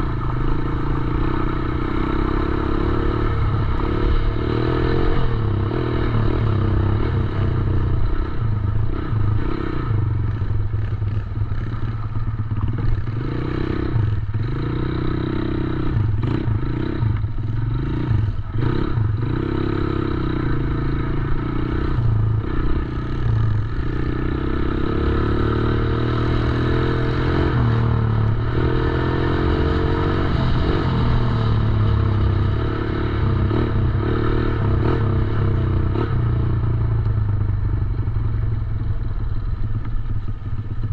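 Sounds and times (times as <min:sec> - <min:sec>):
dirt bike engine revving: 0:00.0 - 0:12.0, 0:12.6 - 0:36.7.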